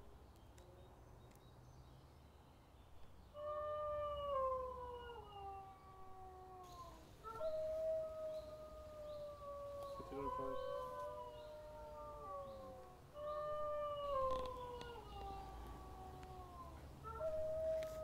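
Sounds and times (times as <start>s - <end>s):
wolf howling: 3.4s - 18.0s.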